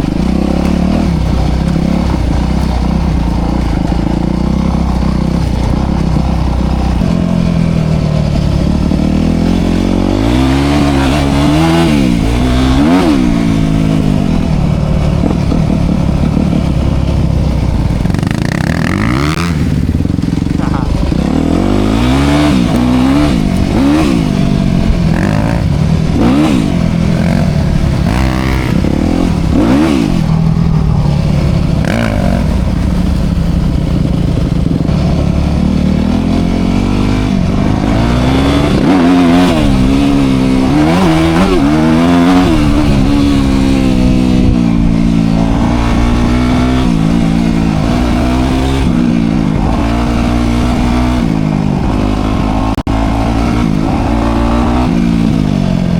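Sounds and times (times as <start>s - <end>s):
dirt bike engine running hard: 0.0s - 55.9s.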